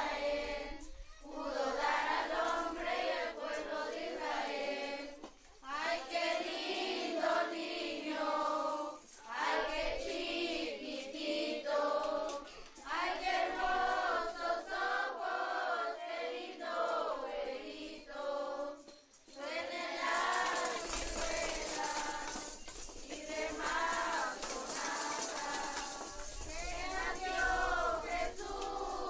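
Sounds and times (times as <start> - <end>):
children singing together: 0.0 - 29.0.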